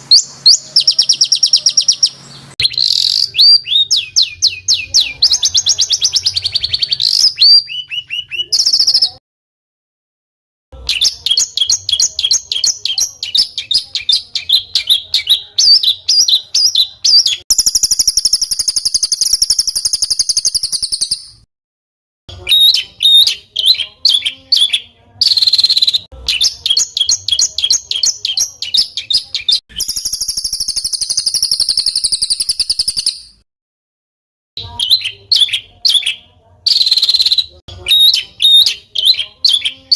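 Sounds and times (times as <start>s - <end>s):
songbird sharp chirps: 0.0s - 9.2s, 10.8s - 21.5s, 22.3s - 33.4s, 34.6s - 39.9s.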